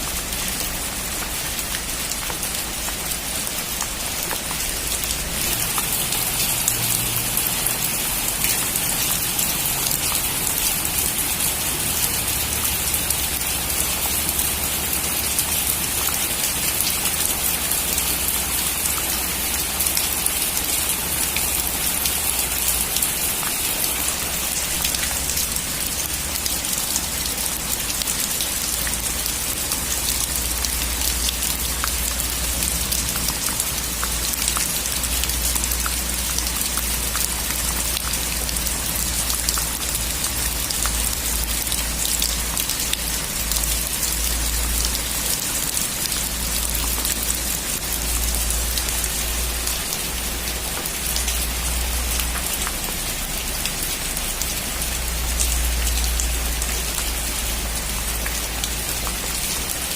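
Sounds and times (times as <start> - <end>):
heavy rain on a metal roof: 0.0 - 59.9.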